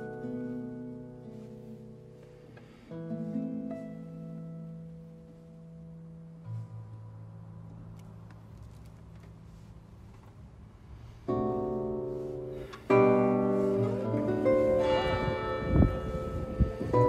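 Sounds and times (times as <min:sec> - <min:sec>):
solo guitar chords: 0:00.0 - 0:08.2, 0:11.3 - 0:17.0.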